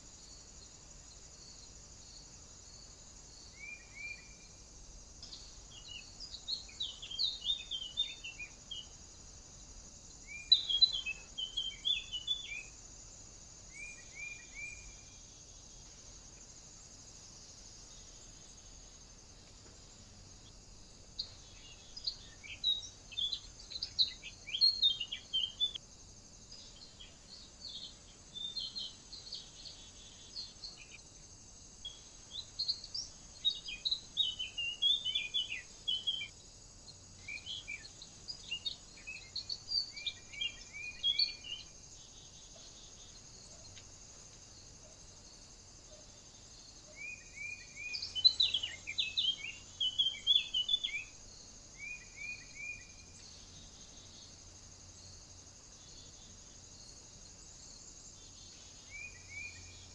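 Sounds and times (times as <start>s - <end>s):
faint high hiss: 0.0s - 59.9s
songbirds chirping and trilling: 0.0s - 59.9s.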